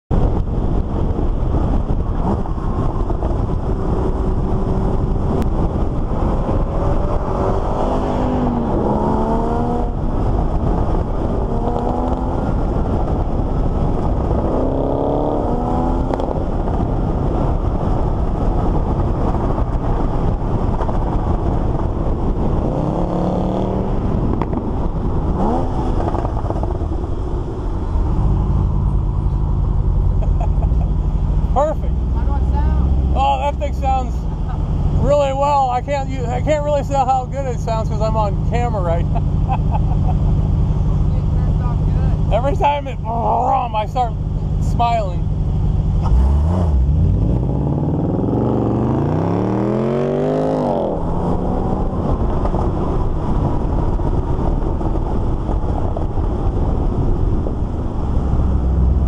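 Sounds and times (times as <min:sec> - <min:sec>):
car engines accelerating: 0:00.1 - 0:59.0
deep exhaust rumble: 0:00.1 - 0:59.0
wind and road noise: 0:00.1 - 0:59.0.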